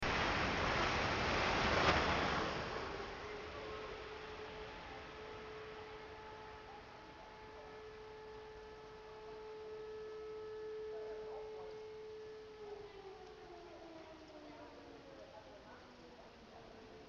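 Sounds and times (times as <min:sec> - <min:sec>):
background hiss: 0:00.0 - 0:17.0
distant wailing motor sirens: 0:00.0 - 0:17.0.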